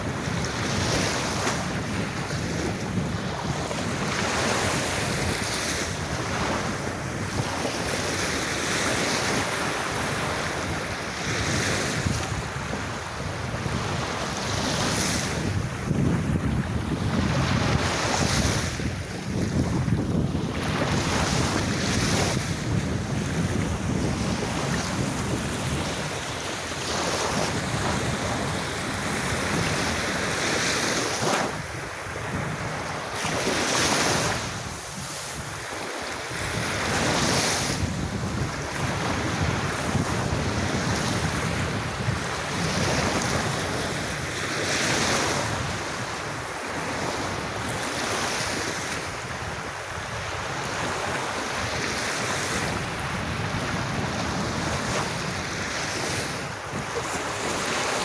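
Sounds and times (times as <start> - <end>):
sea waves breaking on beach: 0.0 - 58.0
wind rumbling on microphone: 0.0 - 58.0.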